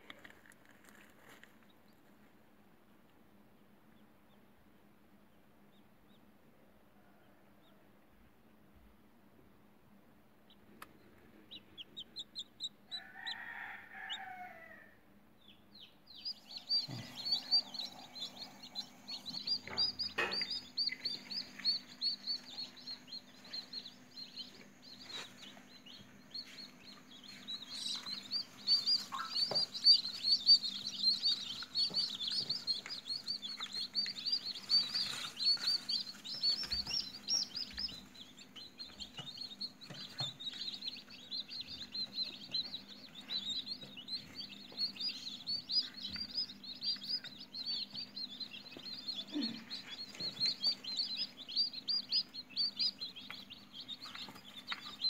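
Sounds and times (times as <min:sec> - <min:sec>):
chicks peeping: 0:00.0 - 0:14.5, 0:15.3 - 0:55.0.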